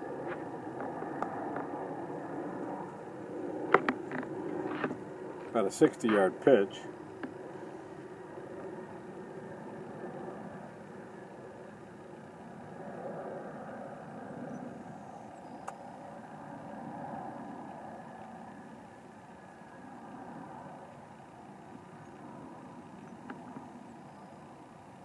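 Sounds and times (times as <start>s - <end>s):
engine rumble: 0.0s - 25.0s.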